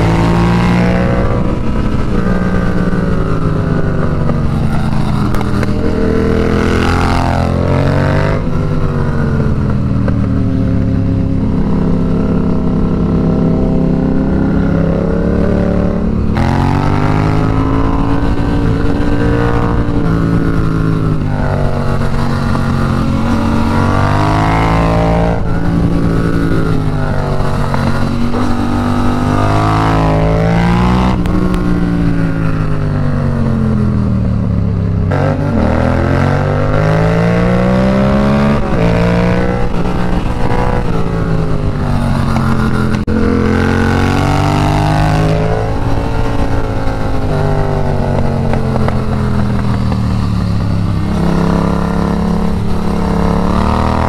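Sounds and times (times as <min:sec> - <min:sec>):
motorcycle engine revving: 0:00.0 - 0:54.0
wind rushing on microphone: 0:00.0 - 0:54.0.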